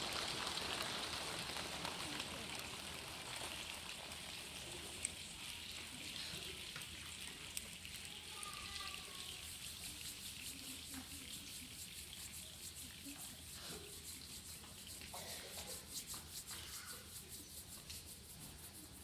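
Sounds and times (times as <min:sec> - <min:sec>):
palms rubbing imitating rain: 0:00.0 - 0:19.0.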